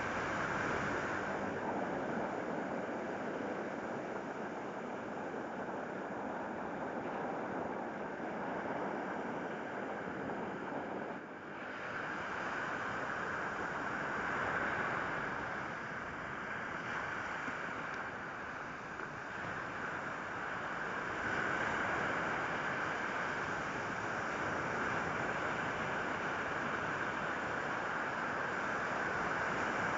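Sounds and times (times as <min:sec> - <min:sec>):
wind blowing on microphone: 0:00.0 - 0:29.9.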